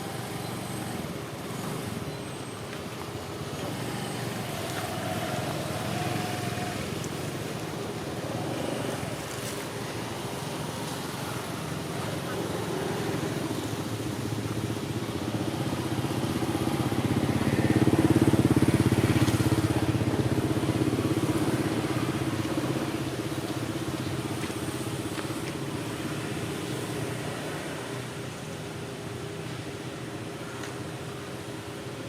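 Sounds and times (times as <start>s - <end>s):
engine running with even pulse: 0.0s - 32.0s.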